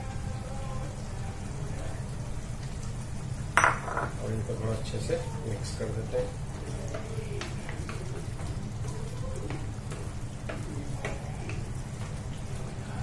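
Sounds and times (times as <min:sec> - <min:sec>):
gravy simmering and crackling: 0:00.0 - 0:13.0.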